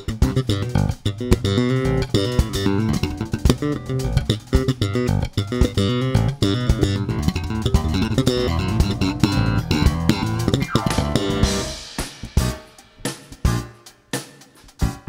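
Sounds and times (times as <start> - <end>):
electric bass guitar: 0.0 - 13.8
drum kit: 0.0 - 15.0
jazz band music: 0.0 - 15.0.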